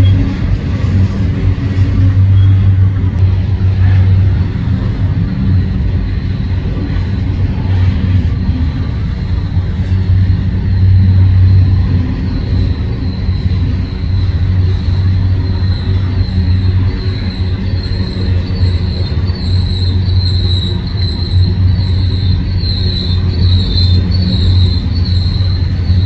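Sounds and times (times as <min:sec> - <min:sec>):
freight train rumbling past: 0:00.0 - 0:26.0
high wheel squeal: 0:00.0 - 0:26.0.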